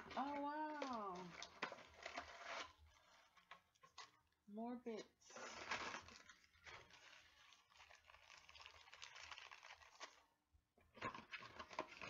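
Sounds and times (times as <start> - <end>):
plastic packaging crinkling: 0.0 - 4.2, 5.3 - 10.3, 11.0 - 12.0.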